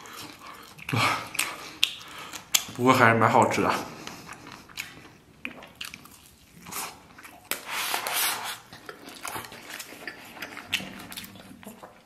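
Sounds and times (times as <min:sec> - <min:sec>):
chewing: 0:00.0 - 0:02.8, 0:03.4 - 0:12.0.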